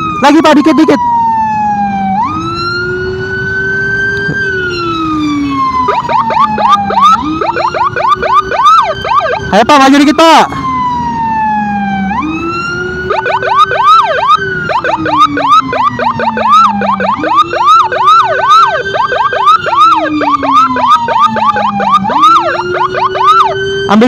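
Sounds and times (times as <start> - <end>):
wailing siren: 0.0 - 24.0
yelping siren: 0.0 - 24.0.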